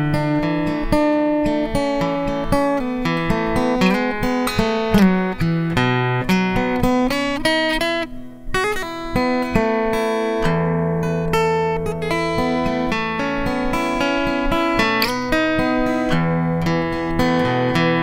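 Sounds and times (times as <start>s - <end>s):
fingerpicked acoustic guitar: 0.0s - 18.0s.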